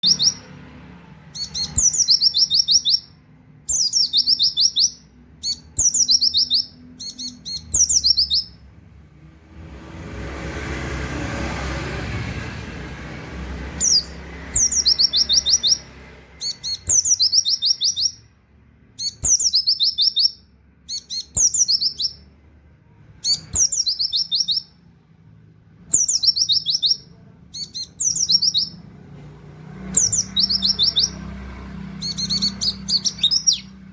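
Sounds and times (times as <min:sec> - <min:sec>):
bird singing rapid high notes: 0:00.0 - 0:08.8, 0:13.3 - 0:22.4, 0:23.1 - 0:25.0, 0:25.8 - 0:29.0, 0:29.7 - 0:33.9.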